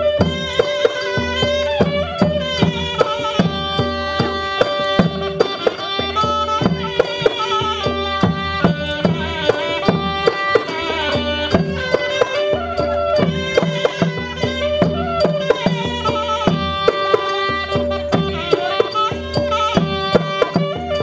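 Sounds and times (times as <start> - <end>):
drum struck steadily: 0.0 - 21.0
wavering high melody: 0.0 - 21.0.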